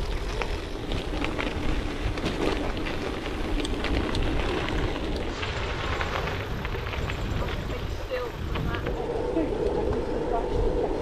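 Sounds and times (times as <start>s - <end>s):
bike tyres crunching on gravel: 0.0s - 11.0s
wind rumble on microphone: 0.0s - 11.0s.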